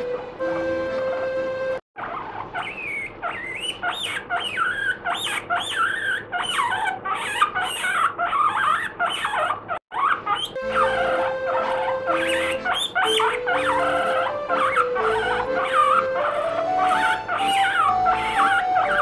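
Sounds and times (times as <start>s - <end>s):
guinea pig squealing: 0.0s - 19.0s.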